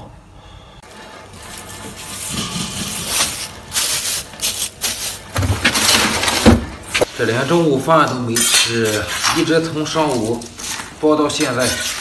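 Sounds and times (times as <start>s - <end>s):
food rustling and clattering: 0.9s - 12.0s.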